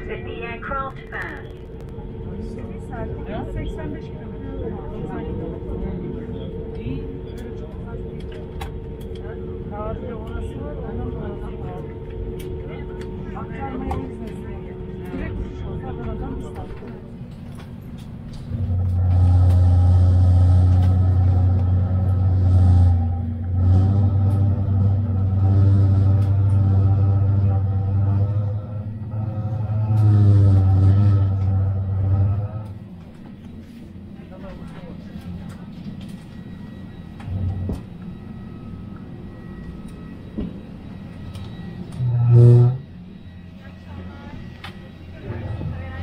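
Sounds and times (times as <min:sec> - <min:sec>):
low engine drone: 0:00.0 - 0:46.0
vehicle rumbling in motion: 0:00.7 - 0:46.0.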